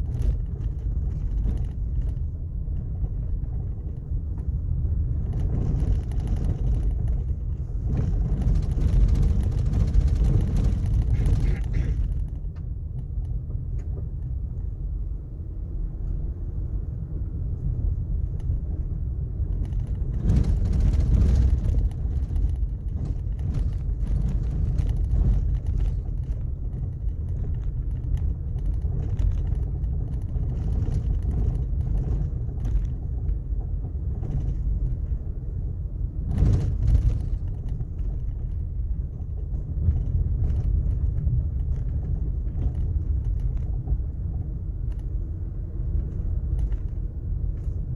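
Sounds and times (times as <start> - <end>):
vehicle driving on gravel road: 0.0 - 47.9.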